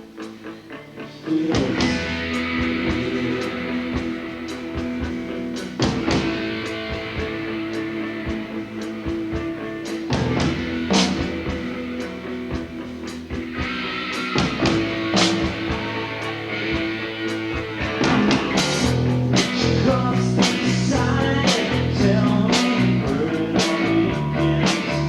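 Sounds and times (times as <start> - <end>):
bass guitar: 0.0 - 25.0
electric guitars ringing: 0.0 - 25.0.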